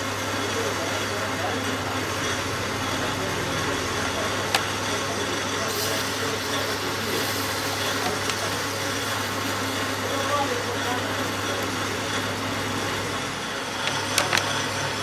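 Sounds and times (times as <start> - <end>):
coolant hissing: 0.0 - 15.0
lathe motor hum: 0.0 - 15.0.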